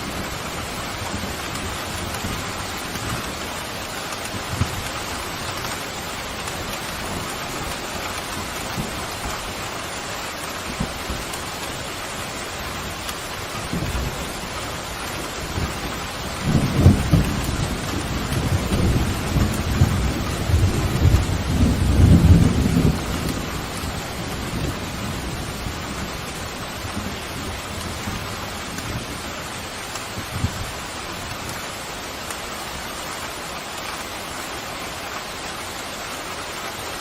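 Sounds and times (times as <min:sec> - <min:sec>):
thunder rumbling: 0:00.0 - 0:32.8
heavy rain: 0:00.0 - 0:37.0.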